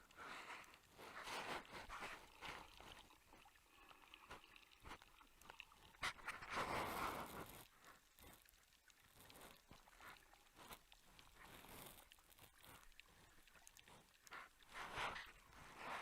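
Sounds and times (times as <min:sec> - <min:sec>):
rushing water: 0:00.0 - 0:16.0
water swishing underwater: 0:00.0 - 0:16.0.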